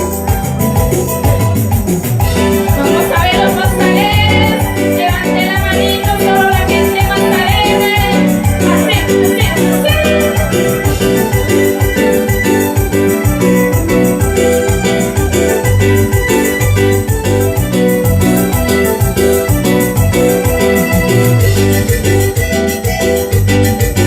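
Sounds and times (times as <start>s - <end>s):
electronic keyboard music: 0.0s - 24.0s
repeating bass beat: 0.0s - 24.0s.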